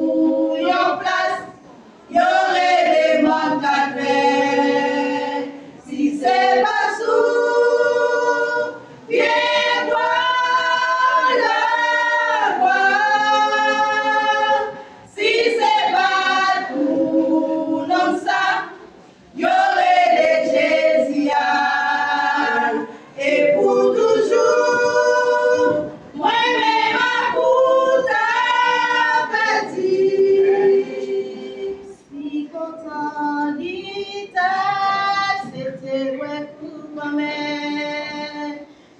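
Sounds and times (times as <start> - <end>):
choir singing gospel: 0.0 - 38.7.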